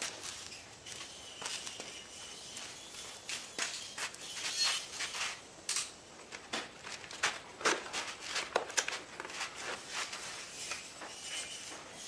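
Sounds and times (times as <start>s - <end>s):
footsteps on concrete: 0.0s - 5.5s, 6.3s - 11.2s.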